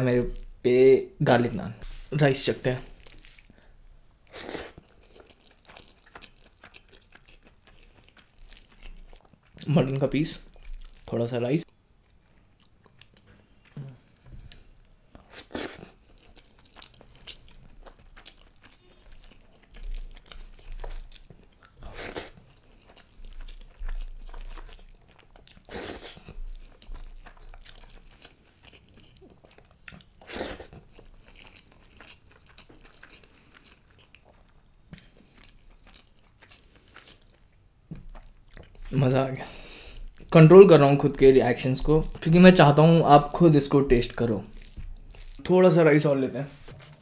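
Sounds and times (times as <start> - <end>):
close chewing: 2.8 - 9.7, 10.4 - 11.1, 12.3 - 45.5.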